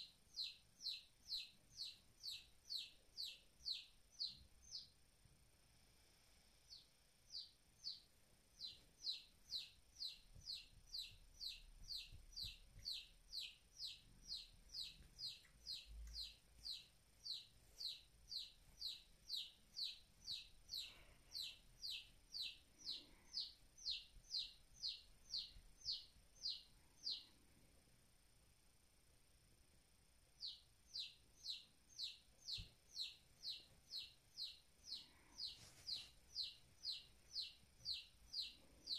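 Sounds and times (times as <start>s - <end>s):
chick peeping: 0.0s - 5.0s, 6.7s - 27.3s, 30.4s - 38.9s.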